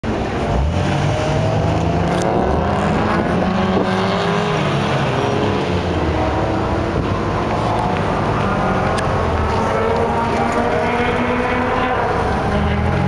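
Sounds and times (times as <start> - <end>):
car engines idling: 0.0 - 13.0
distant car engine revving: 0.1 - 13.0.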